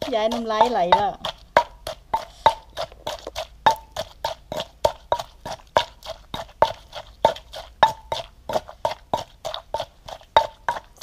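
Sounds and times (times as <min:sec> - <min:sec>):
pestle pounding in mortar: 0:00.0 - 0:11.0.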